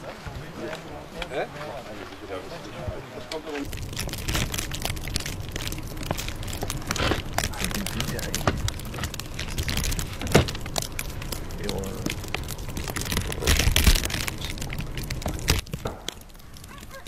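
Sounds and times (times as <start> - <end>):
rustling and crackling: 0.0 - 17.0.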